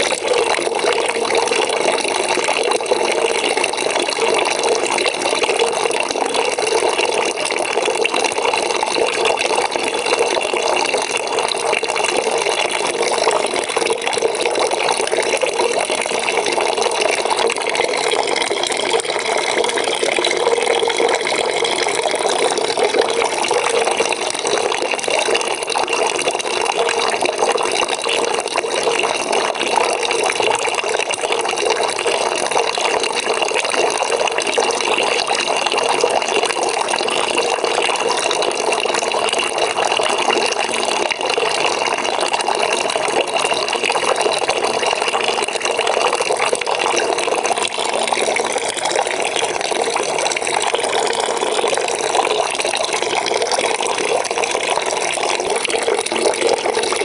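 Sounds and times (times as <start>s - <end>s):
water pouring into a bucket: 0.0s - 57.0s.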